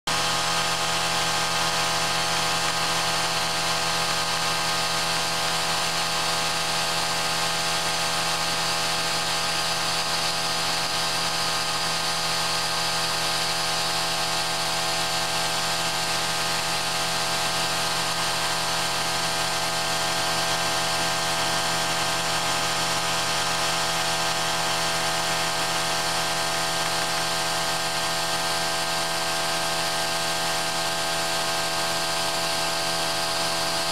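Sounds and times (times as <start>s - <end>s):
milling machine whine: 0.1s - 33.9s.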